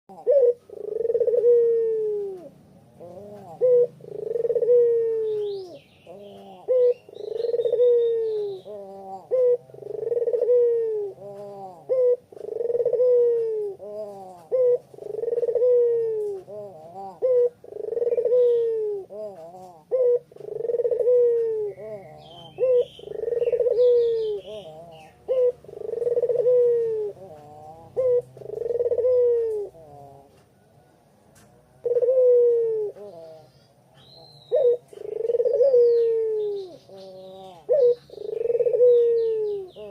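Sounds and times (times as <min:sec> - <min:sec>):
small birds chirping: 0:00.1 - 0:30.6, 0:32.8 - 0:39.9
dove cooing: 0:00.1 - 0:39.9.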